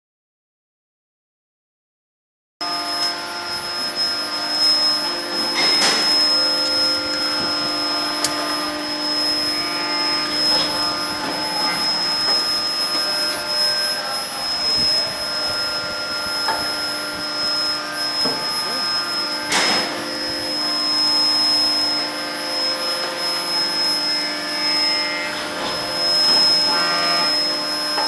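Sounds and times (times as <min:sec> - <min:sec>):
furnace high-pitched whine: 0:02.6 - 0:28.0.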